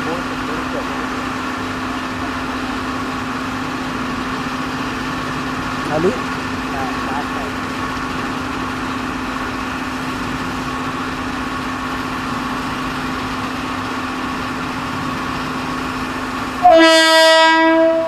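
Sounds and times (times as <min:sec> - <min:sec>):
machinery hum: 0:00.0 - 0:16.8.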